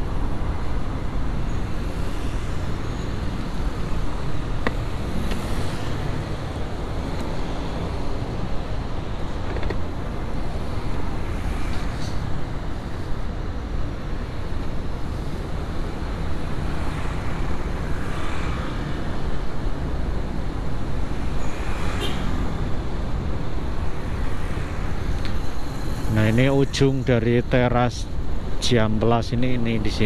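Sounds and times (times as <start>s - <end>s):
road and traffic noise: 0.0s - 30.0s
vehicles passing: 0.0s - 30.0s.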